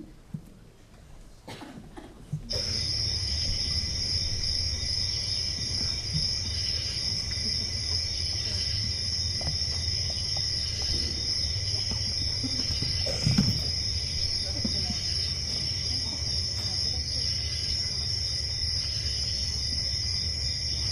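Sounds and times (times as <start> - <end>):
cricket chorus over speakers: 2.5 - 20.9.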